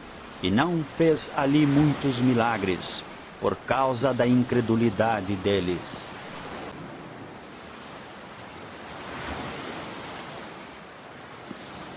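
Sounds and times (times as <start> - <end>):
ocean waves breaking on shore: 0.0 - 11.9.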